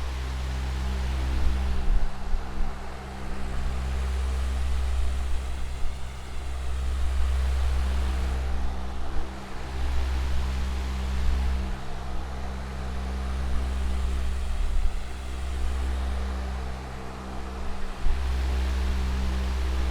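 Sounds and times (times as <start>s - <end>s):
electric fan running: 0.0s - 19.9s.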